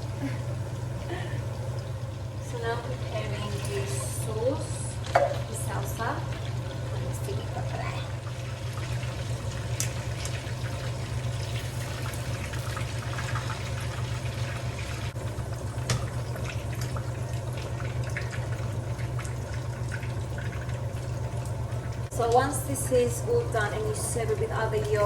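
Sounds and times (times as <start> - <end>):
sauce bubbling in a frying pan: 0.3 - 22.2.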